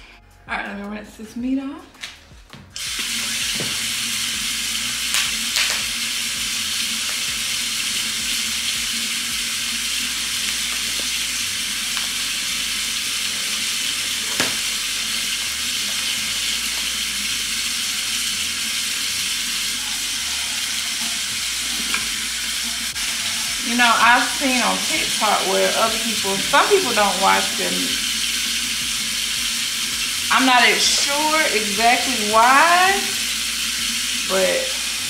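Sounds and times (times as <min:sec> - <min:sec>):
faucet running into steel sink: 0:02.8 - 0:35.0.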